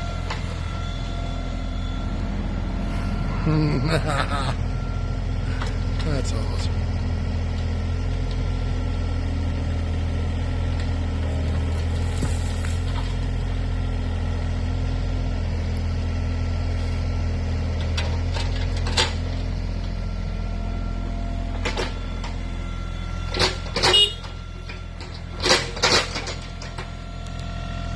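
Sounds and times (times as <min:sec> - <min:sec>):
diesel excavator engine: 0:00.0 - 0:27.9.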